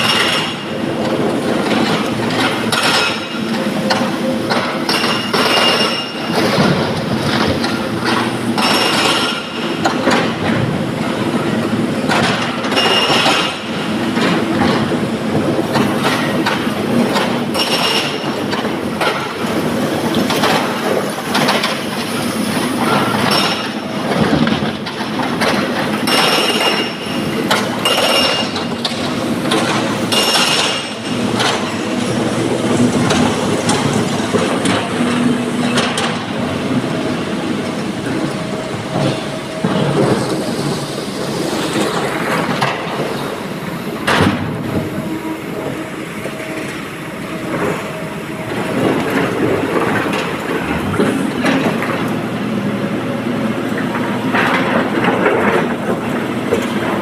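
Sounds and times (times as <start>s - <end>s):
excavator diesel engine and hydraulics: 0.0s - 57.0s.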